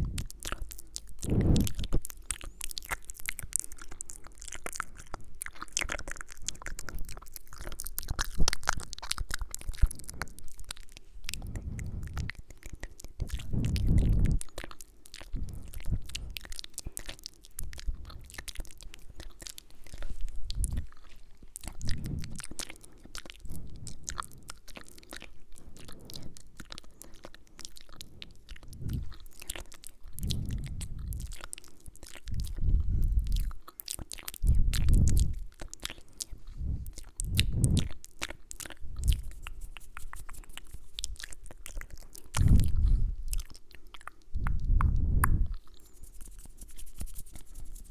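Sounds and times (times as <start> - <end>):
wet mouth clicks and smacks: 0.0 - 47.9.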